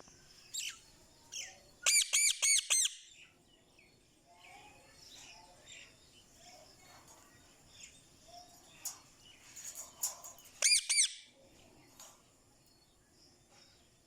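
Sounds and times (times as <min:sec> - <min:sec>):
soft bird chirps and clicks: 0:00.0 - 0:14.0.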